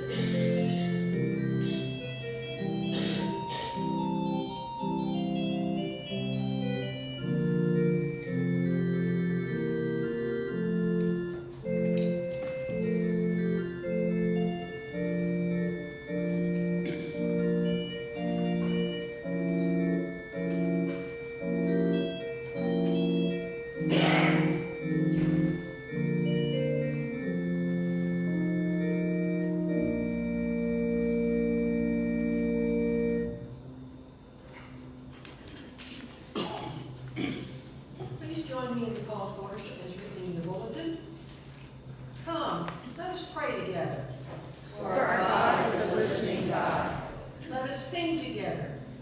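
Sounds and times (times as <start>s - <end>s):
organ playing held chords: 0.0s - 38.1s, 44.0s - 49.0s.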